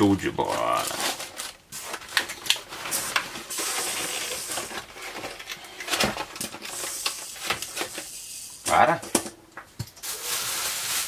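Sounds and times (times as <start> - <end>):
plastic packaging rustling: 0.0 - 8.6, 9.9 - 11.0.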